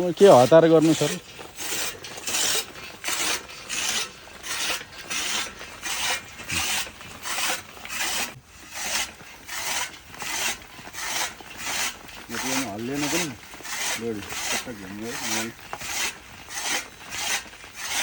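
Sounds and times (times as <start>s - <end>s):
chaff cutter rasping cuts: 0.0s - 18.0s.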